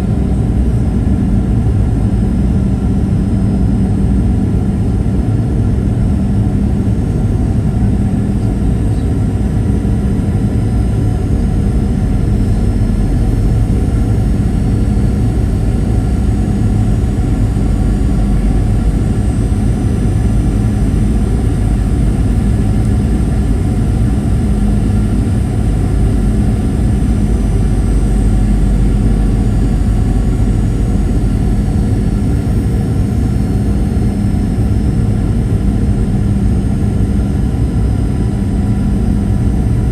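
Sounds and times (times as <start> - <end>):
airflow rushing in aircraft cabin: 0.0 - 39.9
turbofan engines humming: 0.0 - 39.9.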